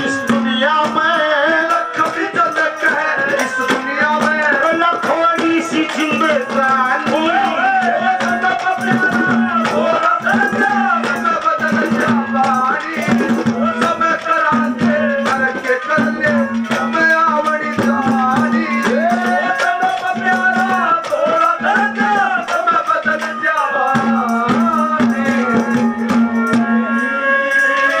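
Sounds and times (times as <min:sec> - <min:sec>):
jingling rattle percussion: 0:00.0 - 0:28.0.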